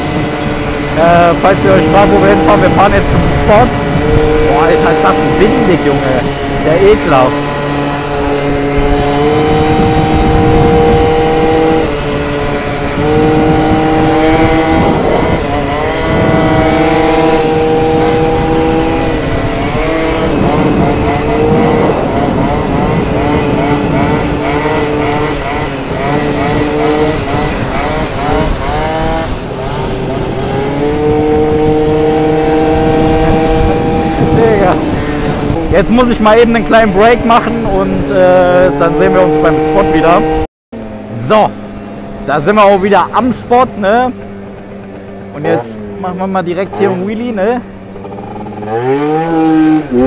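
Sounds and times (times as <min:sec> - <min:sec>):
scooter engines revving: 0:00.0 - 0:50.0
wind buffeting microphone: 0:00.0 - 0:50.0.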